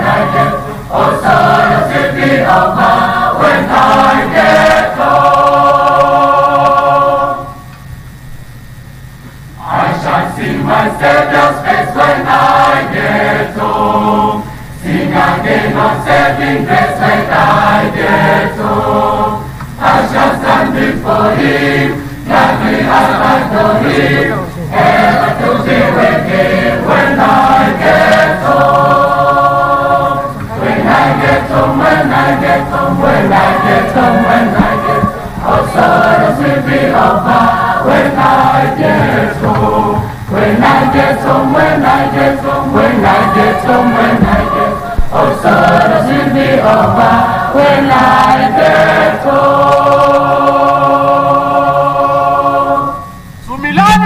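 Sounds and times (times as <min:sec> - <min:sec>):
large choir singing: 0:00.0 - 0:07.7, 0:09.6 - 0:54.0.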